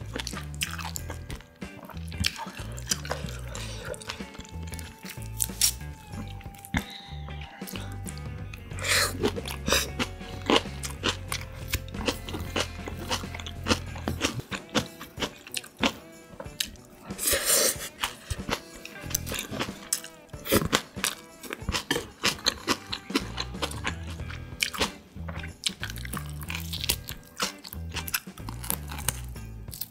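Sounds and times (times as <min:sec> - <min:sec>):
chewing and crunching food: 0:00.0 - 0:29.9
soft background music: 0:00.0 - 0:29.9
wet mouth sounds: 0:00.0 - 0:29.9.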